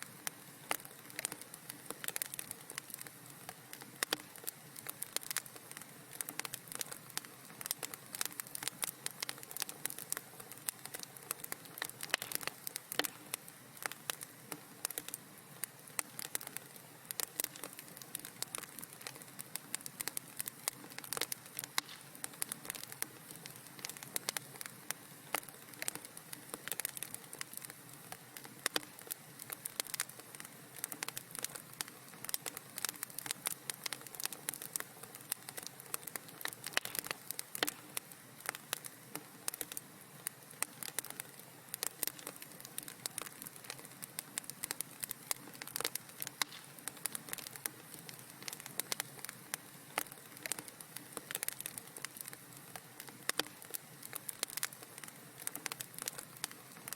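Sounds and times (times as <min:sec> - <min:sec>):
sharp pops and snaps of fire: 0:00.0 - 0:56.9
wood fire crackling: 0:00.0 - 0:56.9.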